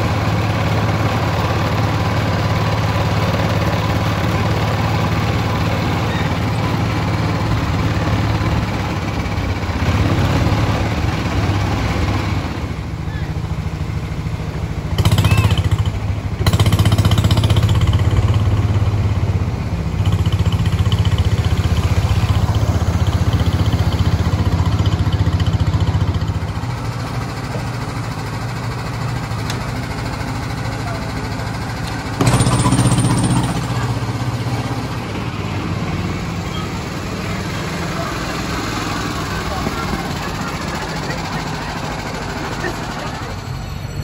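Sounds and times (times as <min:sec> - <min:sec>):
car engine chugging: 0:00.0 - 0:44.0.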